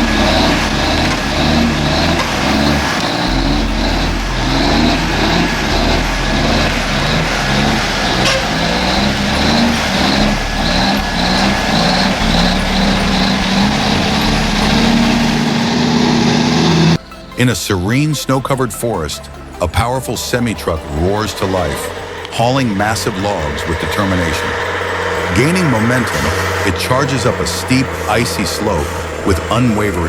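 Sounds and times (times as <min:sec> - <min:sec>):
truck diesel engine running hard: 0:00.0 - 0:30.0.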